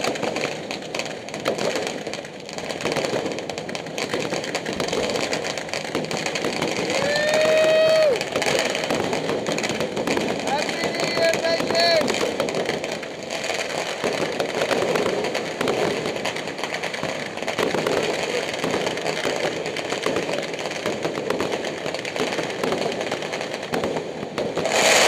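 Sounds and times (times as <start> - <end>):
firecrackers crackling and popping: 0.0 - 25.0.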